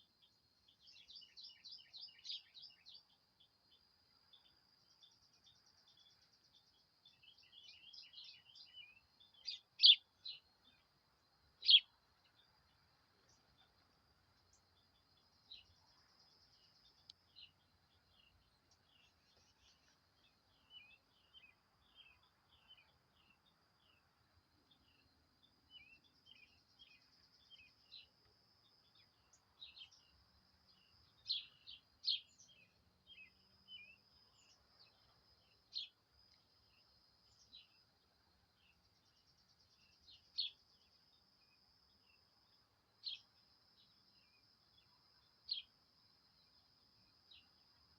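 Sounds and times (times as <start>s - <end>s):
small birds chirping: 0.0s - 10.9s, 11.5s - 45.8s, 46.4s - 47.9s.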